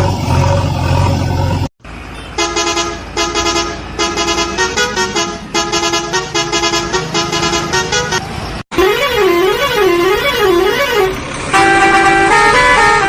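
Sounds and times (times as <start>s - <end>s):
musical vehicle horn tune: 2.2s - 13.0s.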